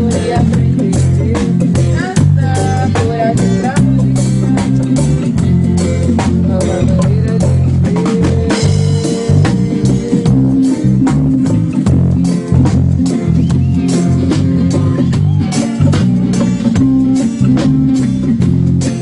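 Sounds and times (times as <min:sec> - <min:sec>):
bass guitar: 0:00.0 - 0:19.0
drum kit beat: 0:00.0 - 0:19.0
guitar: 0:00.0 - 0:19.0.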